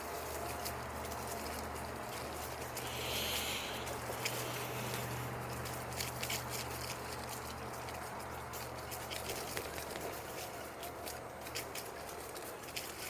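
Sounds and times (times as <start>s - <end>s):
footsteps crunching on leaves: 0.0s - 13.0s
steady low hum: 0.0s - 13.0s.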